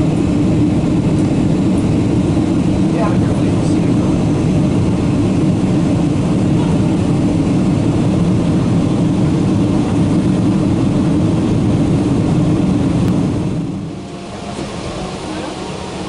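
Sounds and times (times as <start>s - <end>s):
jet cabin engine hum: 0.0s - 16.0s.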